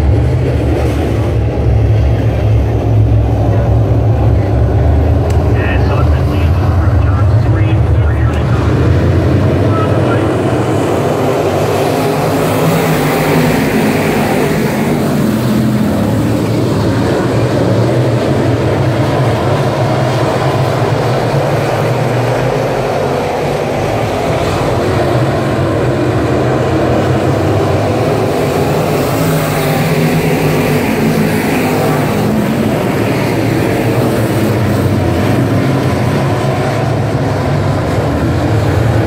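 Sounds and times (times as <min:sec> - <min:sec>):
racing car engines: 0:00.0 - 0:39.0.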